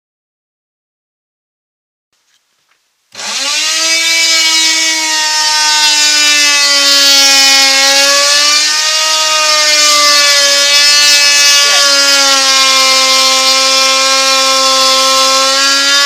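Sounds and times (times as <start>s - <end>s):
power tool cutting wood: 3.1s - 16.0s.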